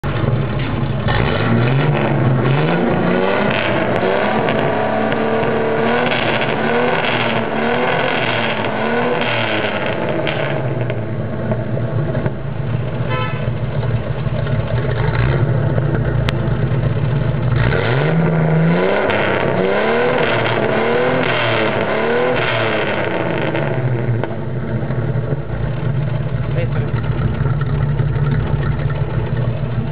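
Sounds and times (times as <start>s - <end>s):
car engine idling: 0.0s - 29.9s
car engine revving: 0.0s - 29.9s.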